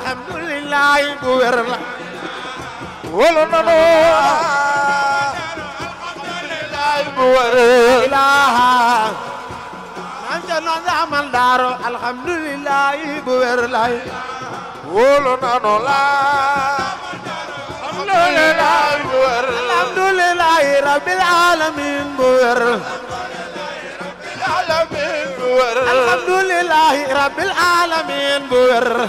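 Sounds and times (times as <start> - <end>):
man chanting religious song: 0.0 - 29.0.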